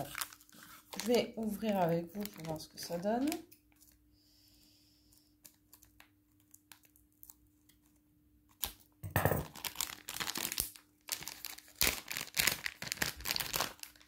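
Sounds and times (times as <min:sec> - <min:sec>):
packet wrapping tearing and crinkling: 0:00.0 - 0:04.0, 0:05.4 - 0:07.4, 0:08.5 - 0:14.0.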